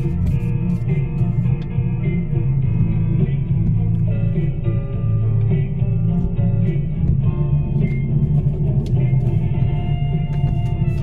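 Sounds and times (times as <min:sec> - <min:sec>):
ballad on radio: 0:00.0 - 0:11.0
bass: 0:00.0 - 0:11.0
guitar: 0:00.0 - 0:11.0.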